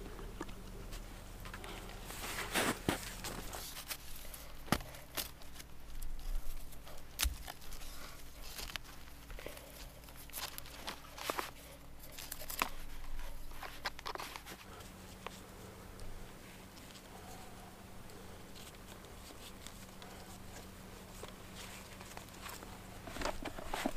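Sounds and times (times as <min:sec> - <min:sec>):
rope rustling on bark: 0:00.0 - 0:23.9.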